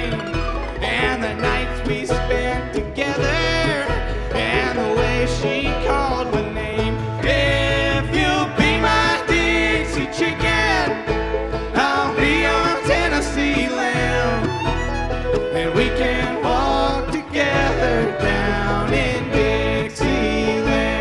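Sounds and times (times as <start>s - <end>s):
banjo: 0.0s - 21.0s
fiddle: 0.0s - 21.0s
mandolin: 0.0s - 21.0s
upright bass: 0.0s - 21.0s.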